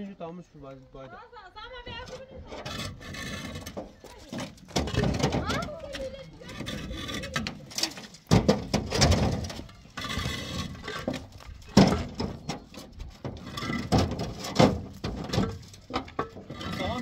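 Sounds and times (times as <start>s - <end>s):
concrete blocks knocking and scraping: 1.8s - 17.0s.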